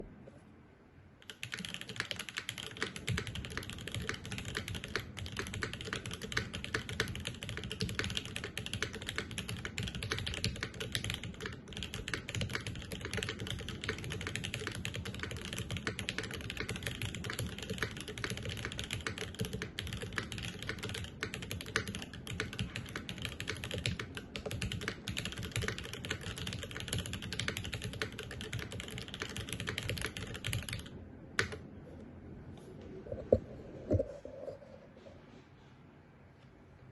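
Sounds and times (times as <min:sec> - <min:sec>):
fast typing on mechanical keyboard: 0:01.2 - 0:31.6.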